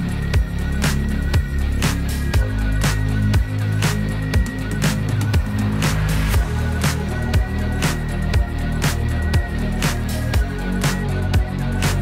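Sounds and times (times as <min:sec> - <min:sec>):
deep bass notes: 0:00.0 - 0:12.0
music with steady beat: 0:00.0 - 0:12.0.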